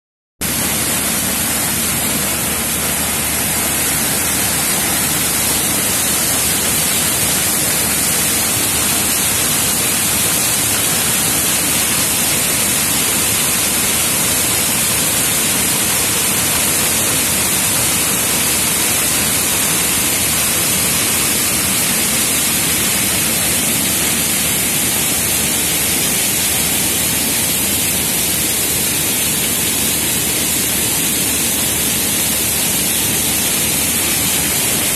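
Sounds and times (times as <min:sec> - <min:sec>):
water gushing from pipes: 0:00.4 - 0:34.9.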